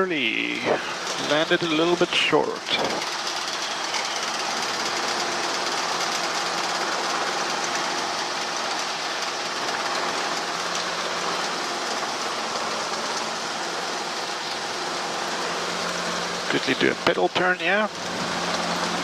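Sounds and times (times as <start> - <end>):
helicopter engine and rotors droning: 0.0 - 19.0.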